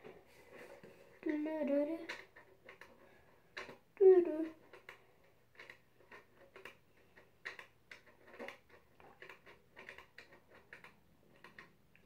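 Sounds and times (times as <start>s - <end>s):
wall clock ticking clicks: 1.2s - 12.0s.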